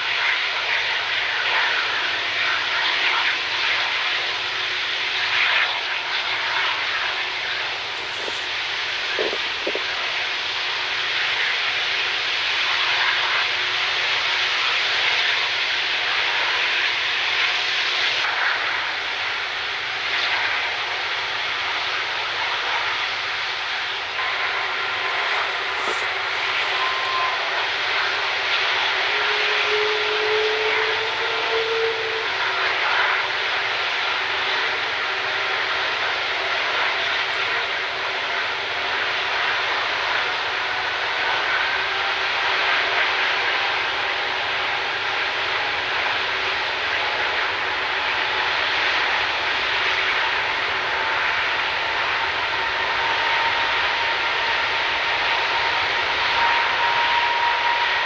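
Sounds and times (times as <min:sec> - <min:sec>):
jet engine running: 0:00.0 - 0:58.0.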